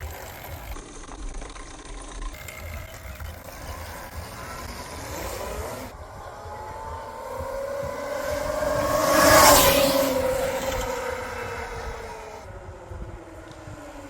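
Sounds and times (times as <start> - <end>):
electric dirt bike running: 0.0 - 14.0.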